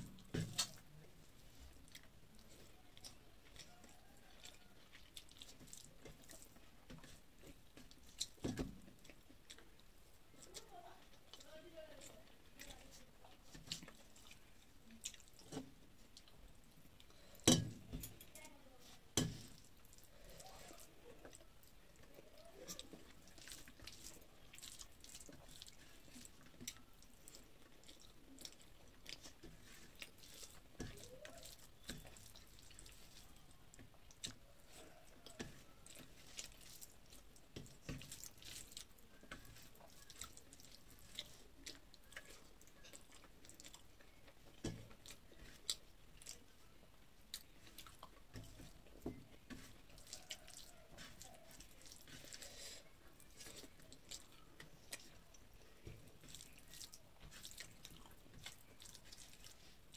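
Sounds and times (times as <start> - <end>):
chewing and wet mouth sounds: 0.0 - 59.9.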